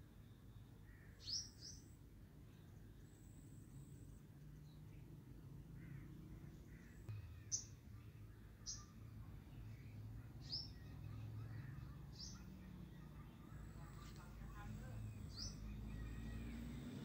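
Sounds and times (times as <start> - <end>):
bird chirping: 0.1 - 3.3, 4.4 - 17.0
faint low hum: 1.8 - 17.0.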